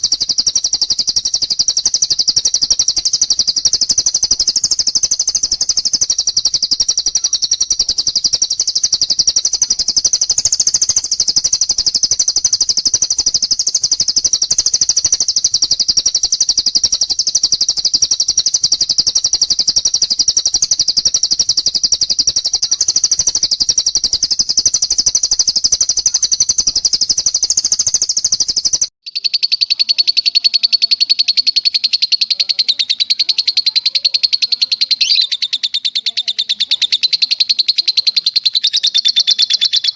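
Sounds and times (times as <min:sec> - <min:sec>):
lower rapid bird trill: 0:00.0 - 0:39.9
songbird trilling: 0:00.0 - 0:39.9.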